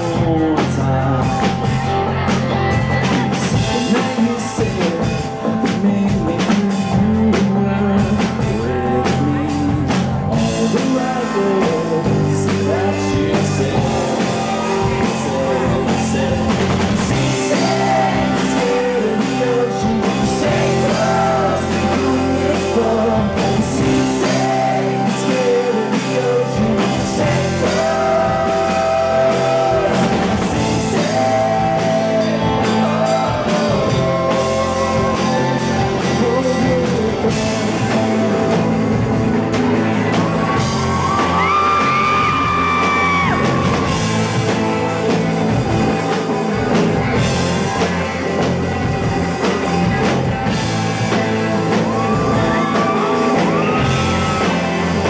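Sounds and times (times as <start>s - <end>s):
live rock band: 0.0s - 55.0s
man singing: 0.0s - 55.0s.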